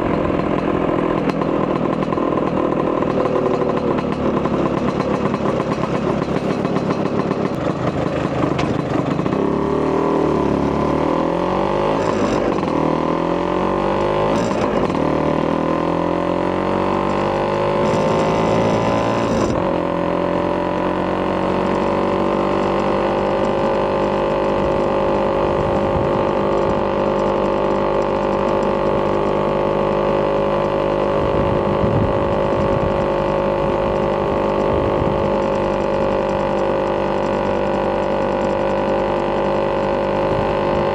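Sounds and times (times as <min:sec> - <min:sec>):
scooter engine accelerating: 0:00.0 - 0:40.9.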